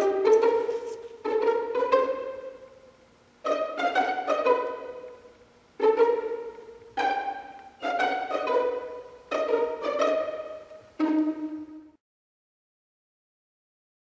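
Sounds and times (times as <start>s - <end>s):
plucked string notes: 0.0s - 12.0s.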